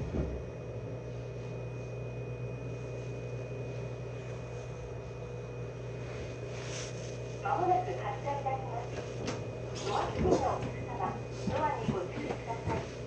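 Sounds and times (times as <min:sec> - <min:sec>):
train equipment low hum: 0:00.0 - 0:13.0.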